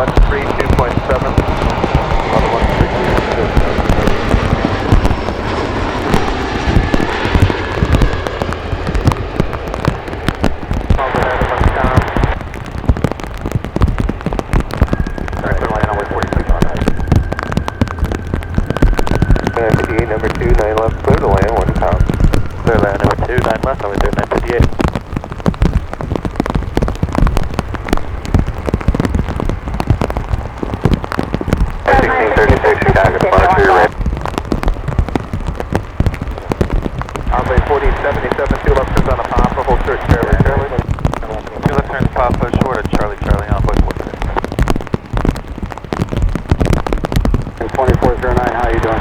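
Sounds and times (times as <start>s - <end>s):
steady wash of noise: 0.0s - 46.0s, 46.6s - 49.0s
raindrops hitting a surface: 0.0s - 49.0s.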